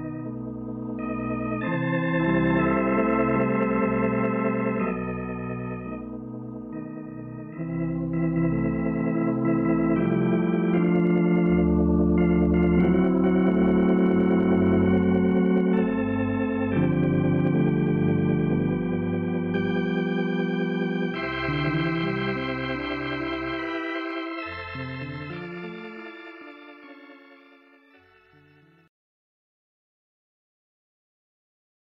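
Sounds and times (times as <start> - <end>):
organ playing slow chords: 0.0 - 28.9.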